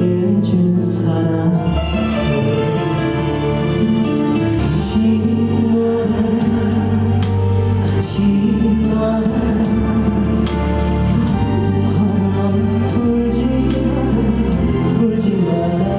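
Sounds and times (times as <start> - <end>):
slow ballad played live: 0.0 - 15.9.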